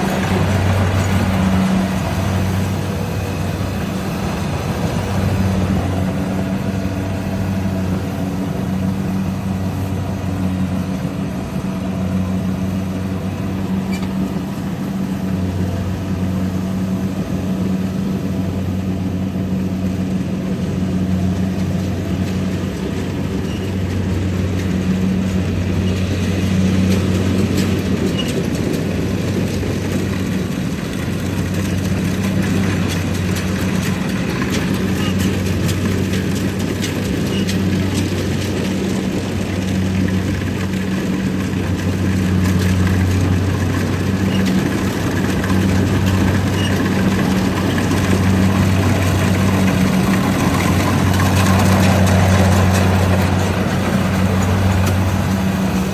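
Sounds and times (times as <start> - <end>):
combine harvester engine hum: 0.0 - 55.9.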